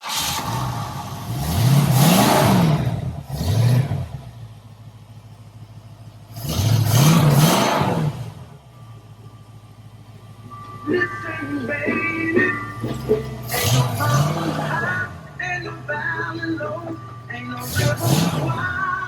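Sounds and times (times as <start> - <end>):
engine idling and revving: 0.0 - 19.0.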